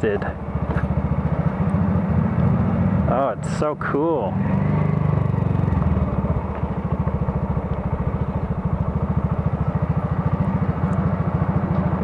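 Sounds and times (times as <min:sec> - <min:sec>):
motorcycle engine idling: 0:00.0 - 0:04.2, 0:05.0 - 0:12.0.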